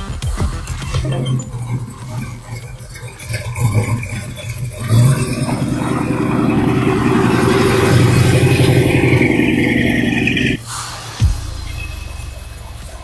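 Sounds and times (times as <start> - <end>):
car engine accelerating: 1.0 - 13.0.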